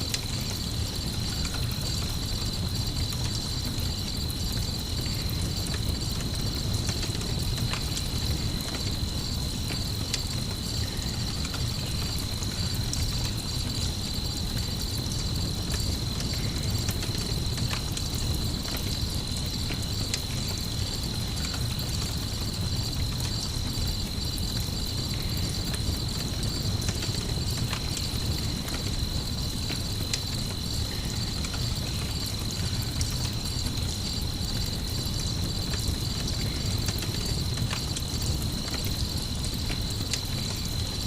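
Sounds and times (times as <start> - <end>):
campfire crackling: 0.0 - 41.0
crickets chirping: 0.0 - 41.0.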